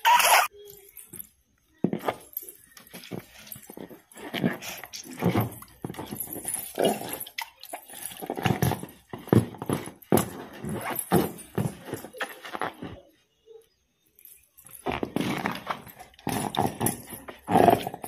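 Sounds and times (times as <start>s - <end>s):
anklet bells jingling: 0.4s - 18.0s.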